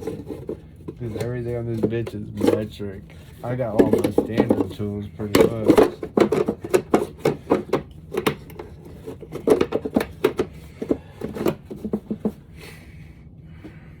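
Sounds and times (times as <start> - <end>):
tool scrape: 0.0 - 12.4.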